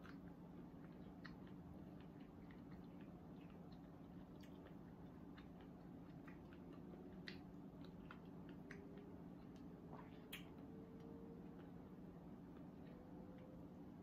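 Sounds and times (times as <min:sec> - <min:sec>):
faint chewing: 0:00.0 - 0:14.0
low steady hum: 0:00.0 - 0:14.0.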